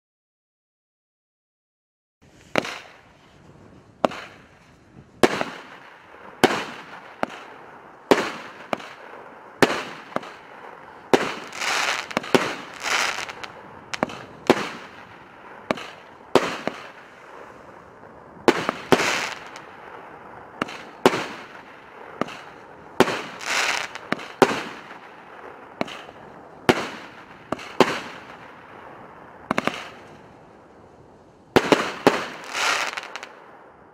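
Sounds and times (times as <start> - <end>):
hissing crackle: 2.2 - 33.4
firework bangs: 2.4 - 30.5, 31.5 - 33.7.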